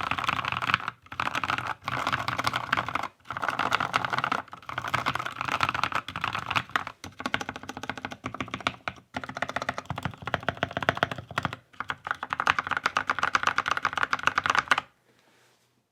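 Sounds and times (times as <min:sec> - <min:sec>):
fast typing on mechanical keyboard: 0:00.0 - 0:14.9.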